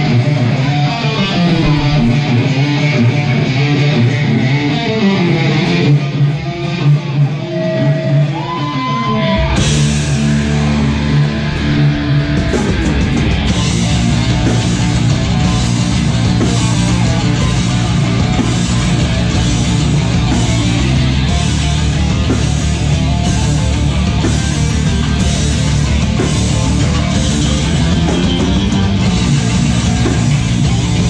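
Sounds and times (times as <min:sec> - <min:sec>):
metalcore band playing live: 0:00.0 - 0:31.0.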